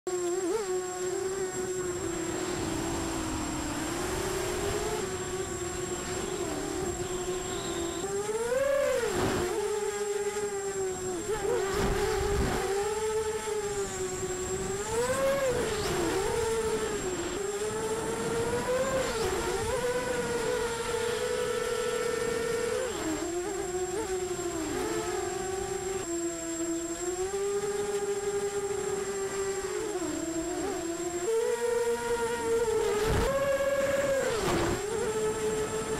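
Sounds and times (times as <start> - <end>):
quadcopter motors whining: 0.1 - 35.9
rushes of wind noise: 0.6 - 35.9.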